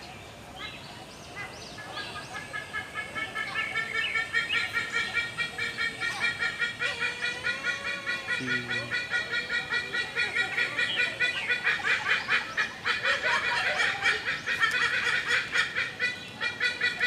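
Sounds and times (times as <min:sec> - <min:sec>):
birds chirping: 0:00.0 - 0:17.0
bird calling rapidly: 0:00.6 - 0:17.0.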